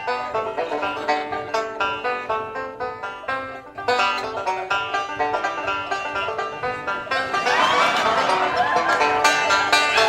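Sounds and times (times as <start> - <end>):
fast plucked banjo: 0.0 - 10.0.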